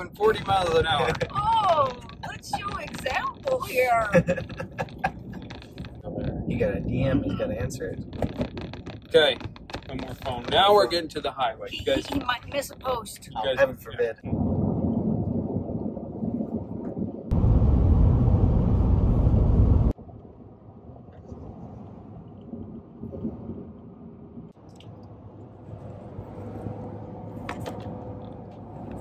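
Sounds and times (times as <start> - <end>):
road and wind noise in vehicle cabin: 0.0 - 29.0.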